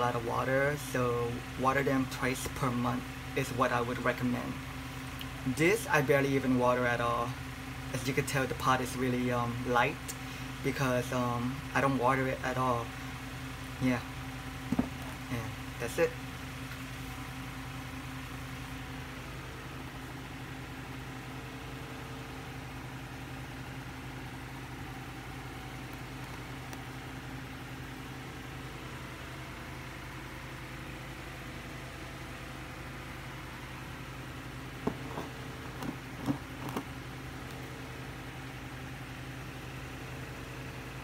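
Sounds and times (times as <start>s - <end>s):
low machine hum: 0.0s - 41.0s.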